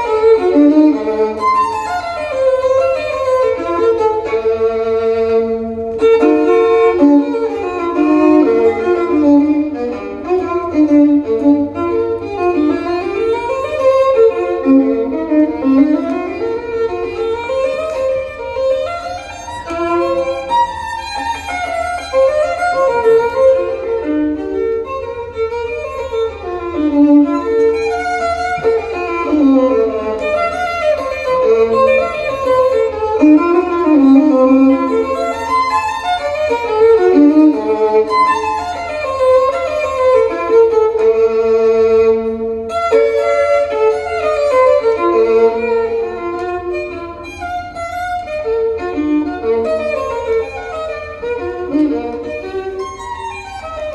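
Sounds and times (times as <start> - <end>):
steady low hum: 0.0 - 53.9
violin music over loudspeakers: 0.0 - 53.9.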